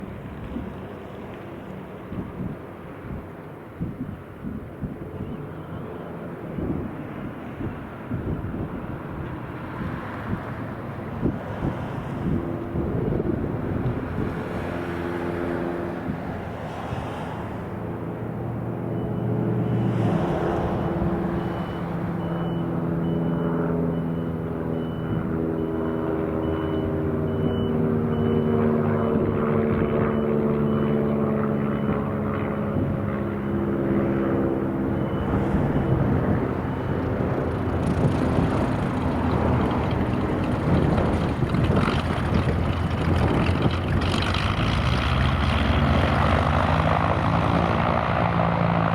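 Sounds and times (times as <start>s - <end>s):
propeller plane engines droning: 0.0s - 48.9s.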